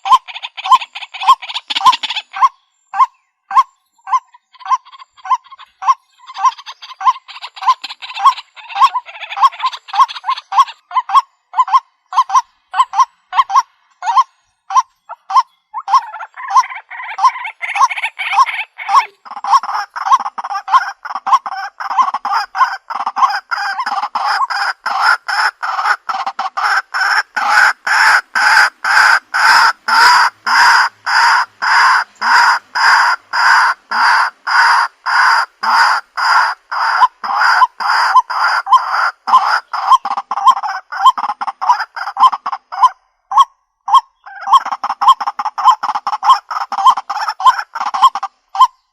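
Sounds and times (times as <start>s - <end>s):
waterhen calling harsh kwak: 0.0s - 48.7s
dense layer of bird calling: 0.0s - 48.9s.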